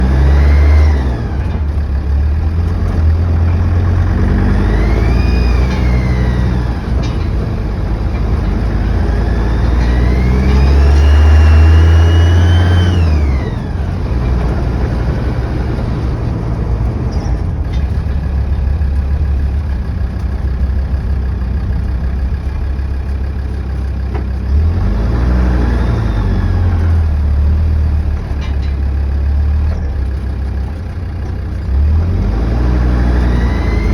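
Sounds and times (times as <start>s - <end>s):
diesel engine idling and revving: 0.0s - 33.9s.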